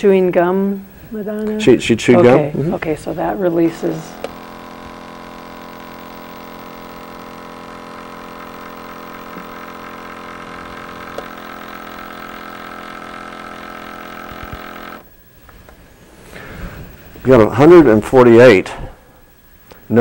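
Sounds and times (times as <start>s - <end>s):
air pump humming: 0.9s - 20.0s.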